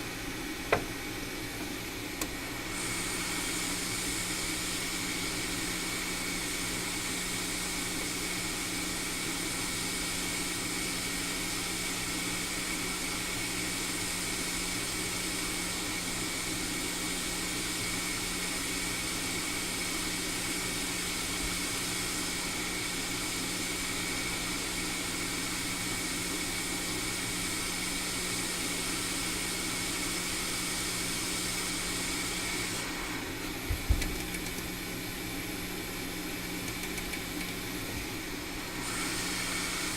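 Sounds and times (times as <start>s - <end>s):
hot air station hiss: 0.0s - 39.9s.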